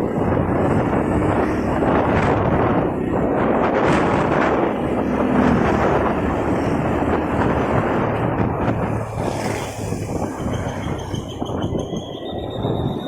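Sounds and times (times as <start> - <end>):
surrounding traffic noise: 0.0 - 13.0
wind on microphone: 0.0 - 13.0.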